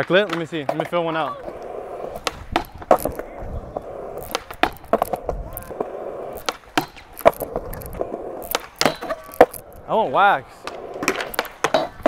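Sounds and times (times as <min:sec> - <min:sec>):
skateboard wheels rolling on concrete: 0:00.0 - 0:12.0
skateboard wooden clacks: 0:00.0 - 0:12.0.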